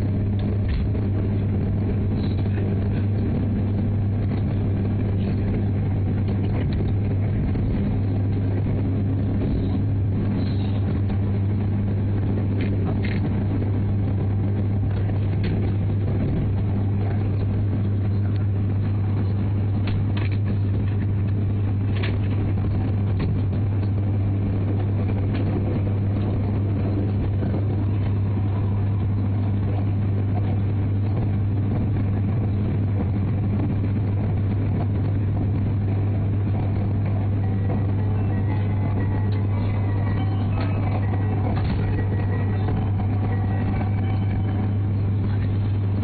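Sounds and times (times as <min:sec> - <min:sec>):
train interior hum and rumble: 0:00.0 - 0:46.0.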